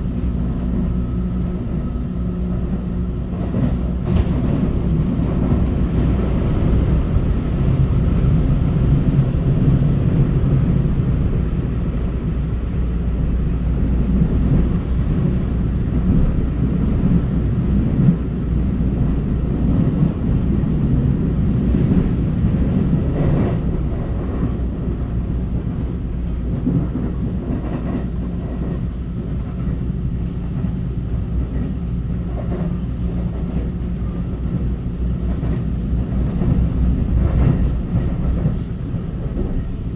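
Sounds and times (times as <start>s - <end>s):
train running with low rumble: 0.0s - 39.9s.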